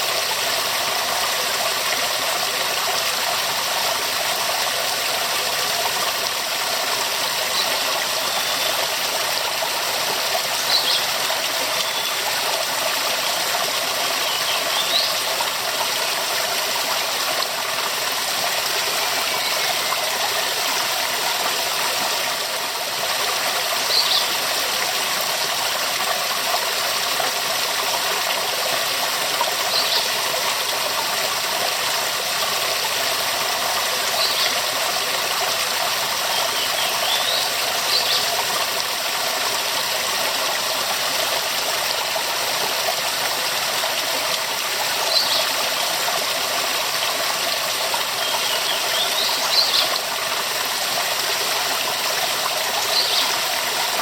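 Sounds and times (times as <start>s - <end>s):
waterfall rushing: 0.0s - 26.0s, 35.1s - 54.0s.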